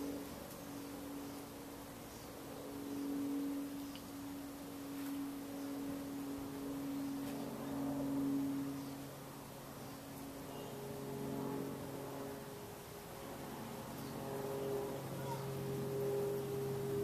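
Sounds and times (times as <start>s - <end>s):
ceiling fan motor humming: 0.0s - 17.0s.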